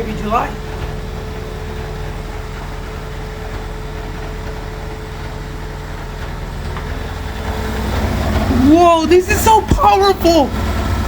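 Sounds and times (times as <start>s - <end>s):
washing machine spinning: 0.0s - 11.0s
washing machine whine: 0.0s - 11.0s.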